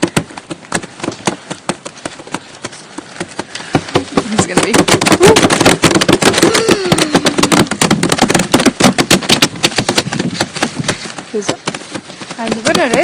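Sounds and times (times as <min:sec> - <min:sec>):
fast irregular tapping: 0:00.0 - 0:13.0.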